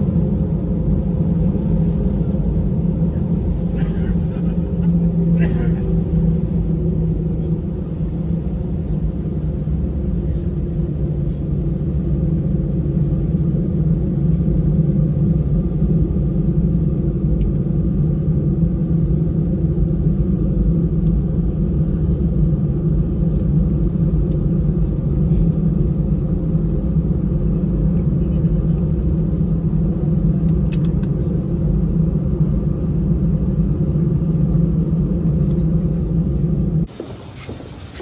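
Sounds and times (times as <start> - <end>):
constant hum: 0.0 - 38.0
vehicle cabin rumble: 0.0 - 38.0.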